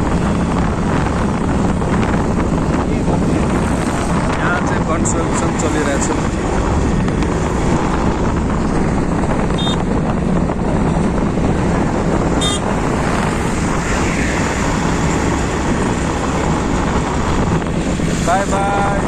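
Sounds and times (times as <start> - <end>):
vehicle road noise: 0.0 - 19.0
wind rushing over microphone: 0.0 - 19.0.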